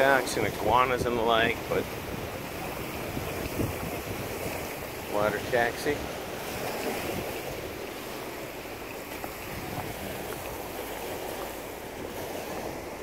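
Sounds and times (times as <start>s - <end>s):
sea surf: 0.0s - 13.0s
wind rumbling on microphone: 0.0s - 13.0s.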